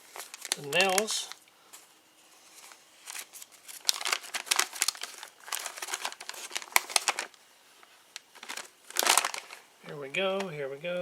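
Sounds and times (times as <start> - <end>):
paper rustling and crinkling: 0.0 - 9.7.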